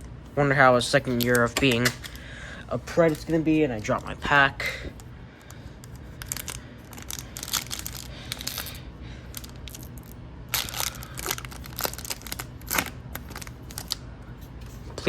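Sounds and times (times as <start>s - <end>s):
foil wrapper crinkling and tearing: 1.0s - 2.2s, 2.8s - 14.0s.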